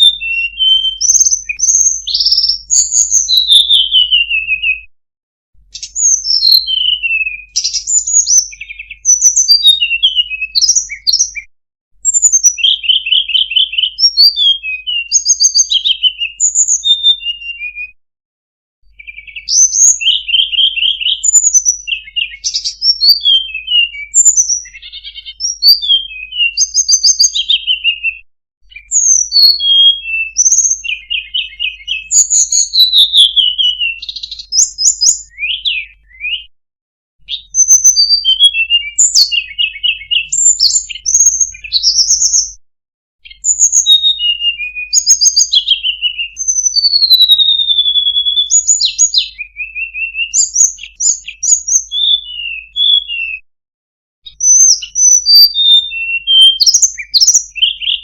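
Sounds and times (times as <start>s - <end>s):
bird singing whistled phrases: 0.0s - 4.9s, 5.7s - 18.0s, 18.9s - 36.5s, 37.2s - 42.6s, 43.2s - 53.4s, 54.3s - 58.0s.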